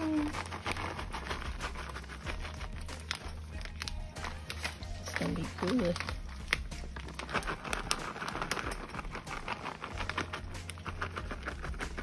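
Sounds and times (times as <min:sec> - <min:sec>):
cheese shreds pattering: 0:00.0 - 0:12.0
plastic bag crinkling: 0:00.0 - 0:12.0.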